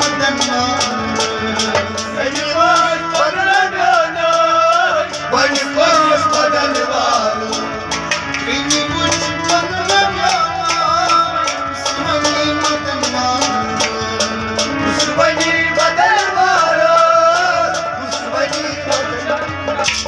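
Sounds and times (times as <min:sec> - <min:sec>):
hand percussion beat: 0:00.0 - 0:20.0
harmonium chords: 0:00.0 - 0:20.0
man singing: 0:00.0 - 0:20.0.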